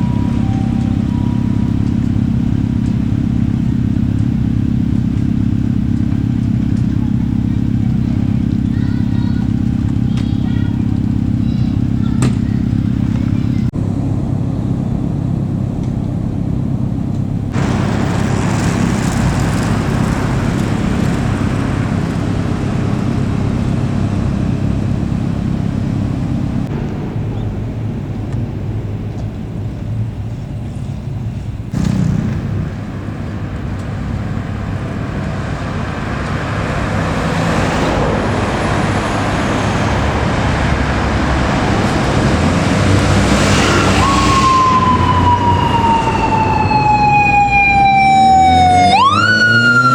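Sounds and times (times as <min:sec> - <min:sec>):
vehicle engine drone: 0:00.0 - 0:49.9.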